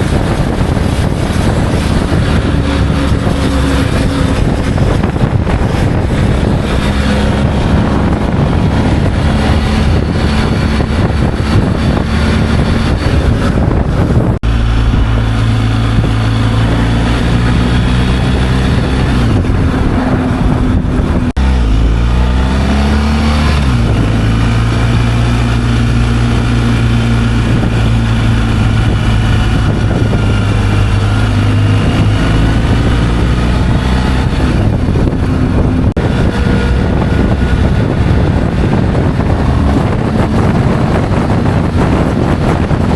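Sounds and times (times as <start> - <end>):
motorcycle engine running: 0.0 - 42.9
wind noise on microphone: 0.0 - 42.9.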